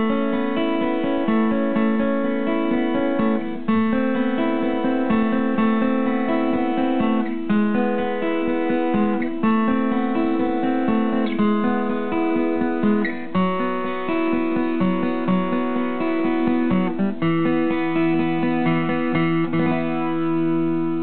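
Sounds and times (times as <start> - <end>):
acoustic guitar picked chords: 0.0 - 21.0.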